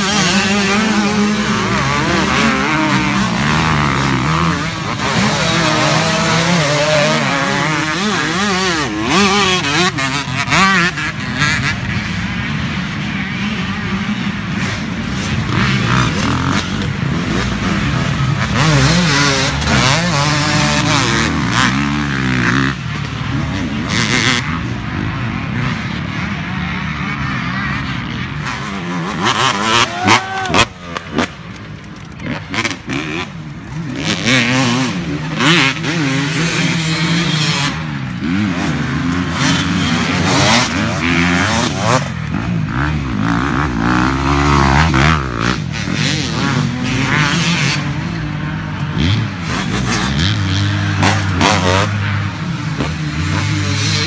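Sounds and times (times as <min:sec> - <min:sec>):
dirt bikes racing past: 0:00.0 - 0:54.0.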